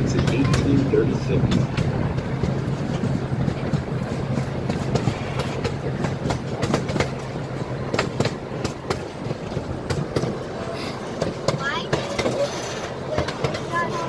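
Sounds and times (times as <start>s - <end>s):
miniature train low drone: 0.0s - 14.0s
wheels clicking over rail joints: 0.0s - 14.0s.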